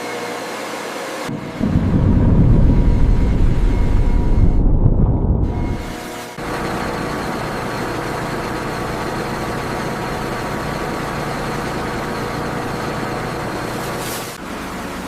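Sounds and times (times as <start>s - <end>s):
machinery hum and rush: 1.3s - 15.0s.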